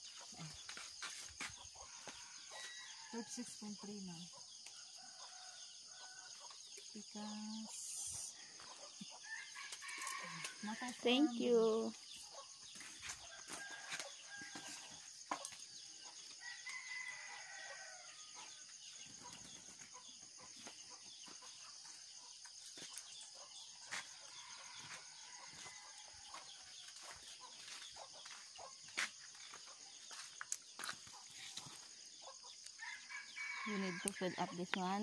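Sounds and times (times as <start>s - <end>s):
distant roosters crowing: 0.0s - 35.0s.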